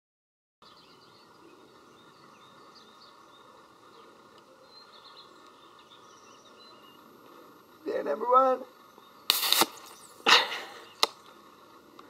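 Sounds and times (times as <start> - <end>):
birds chirping: 0.6 - 12.0
steady background hiss: 0.7 - 12.0.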